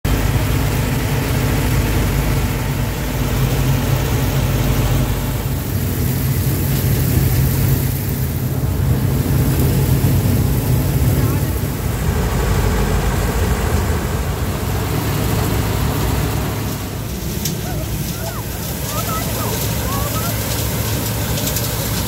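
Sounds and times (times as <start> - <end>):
tractor engine humming: 0.0 - 22.0
threshing machine rushing: 0.1 - 22.0.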